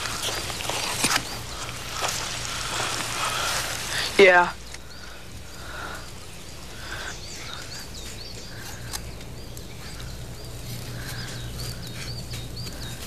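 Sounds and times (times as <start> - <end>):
birds chirping: 0.0 - 13.0
soft low bird calls: 0.0 - 13.0.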